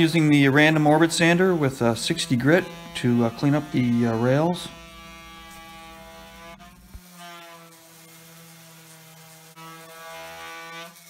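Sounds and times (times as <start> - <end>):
orbit sander on wood: 0.0 - 11.0.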